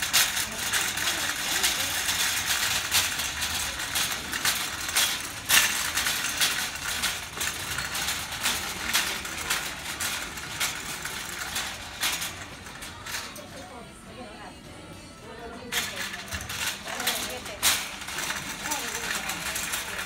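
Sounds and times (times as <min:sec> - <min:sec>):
shopping cart rattling: 0:00.0 - 0:14.0, 0:15.3 - 0:20.0.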